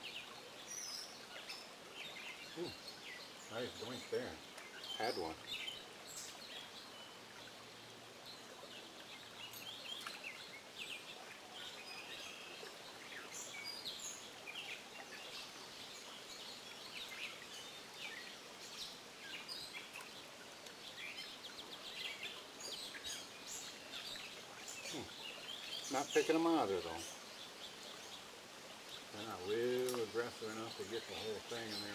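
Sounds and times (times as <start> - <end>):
faint stream rushing: 0.0 - 31.9
songbirds chirping: 0.0 - 31.9.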